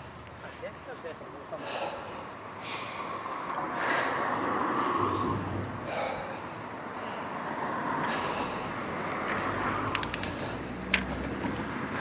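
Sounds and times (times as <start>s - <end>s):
cyclist breathing hard: 1.5s - 12.0s.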